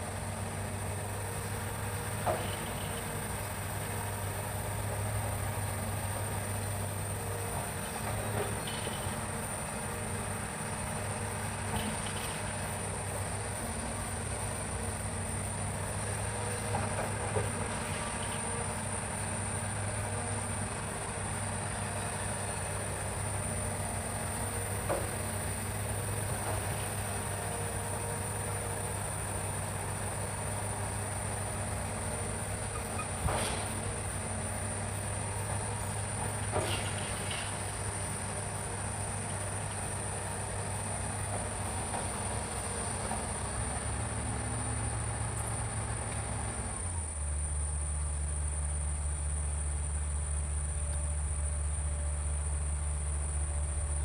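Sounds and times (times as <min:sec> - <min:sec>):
excavator diesel engine running: 0:00.0 - 0:54.0
forest insects droning: 0:00.0 - 0:54.0.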